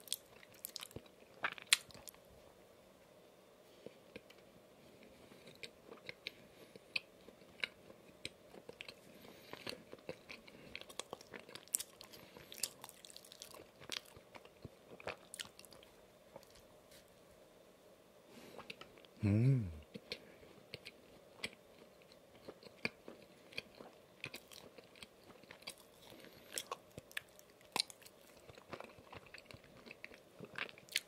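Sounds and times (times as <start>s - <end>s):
close chewing with mouth clicks: 0.0s - 2.2s, 4.1s - 16.7s, 18.5s - 19.2s, 19.8s - 31.0s.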